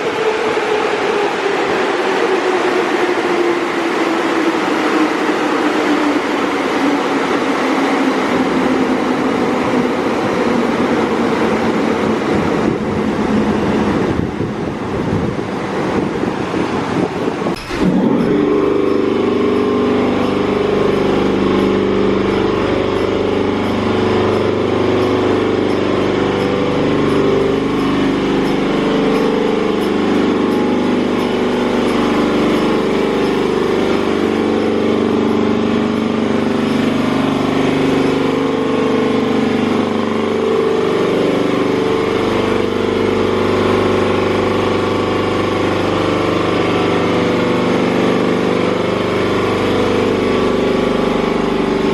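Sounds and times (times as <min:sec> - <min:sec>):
car wash mechanical drone: 0:00.0 - 0:51.9.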